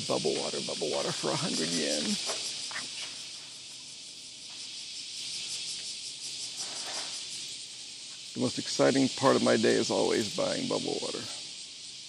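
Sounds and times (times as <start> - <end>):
cicadas buzzing in chorus: 0.0 - 12.0.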